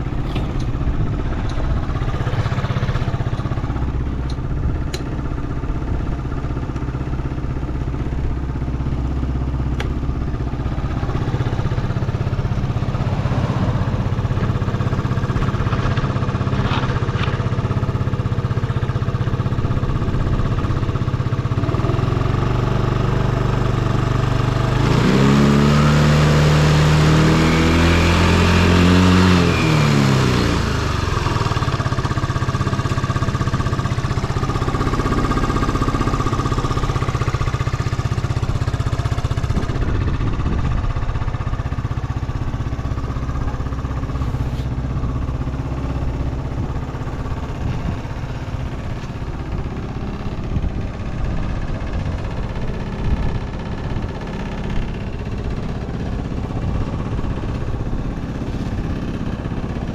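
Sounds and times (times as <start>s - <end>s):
scooter engine idling and revving: 0.0s - 59.9s.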